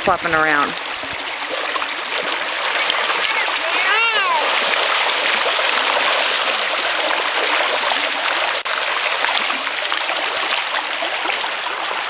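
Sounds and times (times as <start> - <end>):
creek rushing over gravel: 0.0 - 12.0.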